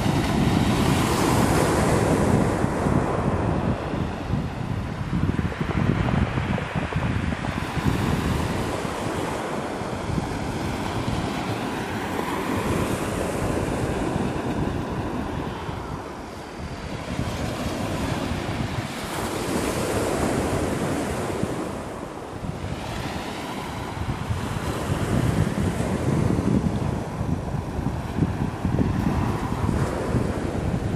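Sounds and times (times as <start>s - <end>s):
waves breaking on pebble beach: 0.0s - 30.9s
wind buffeting microphone: 0.0s - 30.9s.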